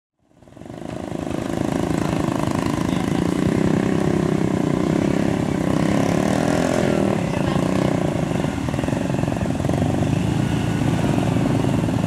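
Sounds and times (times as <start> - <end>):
small motorcycle engines running: 0.2 - 12.0.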